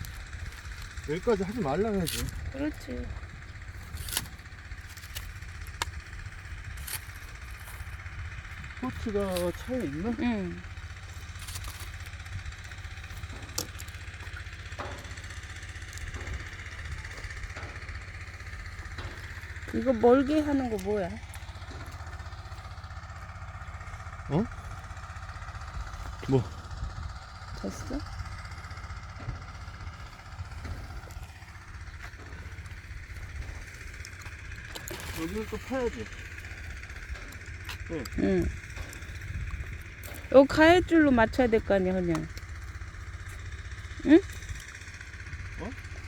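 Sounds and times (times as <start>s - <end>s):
excavator engine idling: 0.0s - 46.0s.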